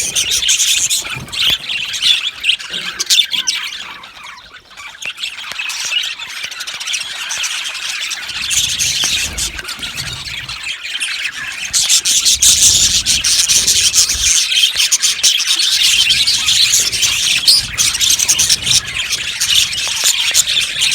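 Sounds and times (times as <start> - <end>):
budgerigars chattering and squawking: 0.0 - 20.9.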